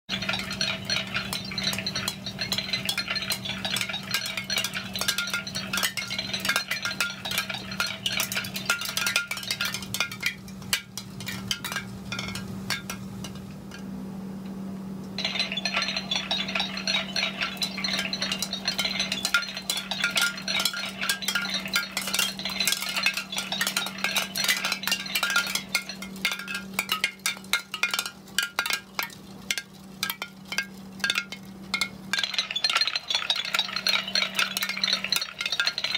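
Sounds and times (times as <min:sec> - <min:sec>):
wind chime clinking: 0:00.1 - 0:13.0, 0:15.2 - 0:35.9.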